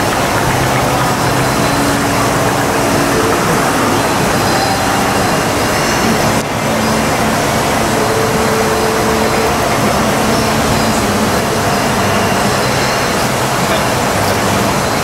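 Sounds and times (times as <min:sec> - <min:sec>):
brewery machinery din: 0:00.0 - 0:15.0.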